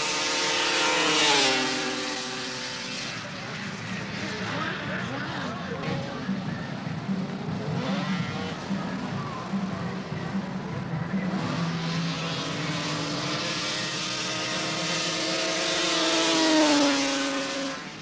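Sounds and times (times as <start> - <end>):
snowmobile engine at full throttle: 0.0 - 18.0.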